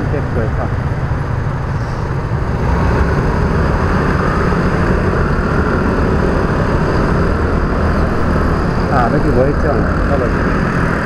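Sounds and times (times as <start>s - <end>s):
motor scooter engine rumble: 0.0s - 11.0s.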